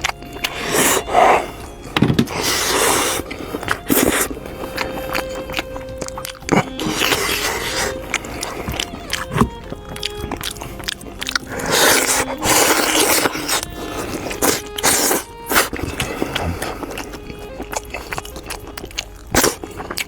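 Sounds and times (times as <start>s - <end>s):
person chewing and crunching bone: 0.0s - 20.0s.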